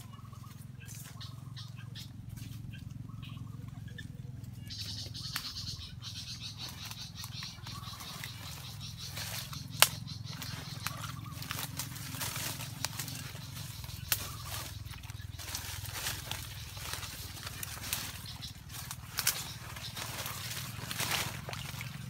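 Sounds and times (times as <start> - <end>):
high fast-pulsing animal chorus: 0.0 - 22.0
steady low hum: 0.0 - 22.0.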